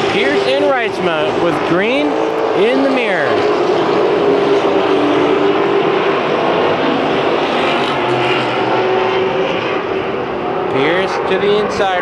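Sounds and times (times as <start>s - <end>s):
race truck engines droning: 0.0s - 12.0s.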